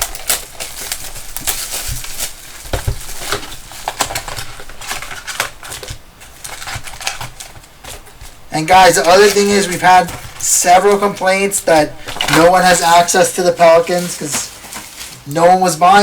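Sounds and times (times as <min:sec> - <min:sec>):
foil wrappers crinkling: 0:00.0 - 0:16.0.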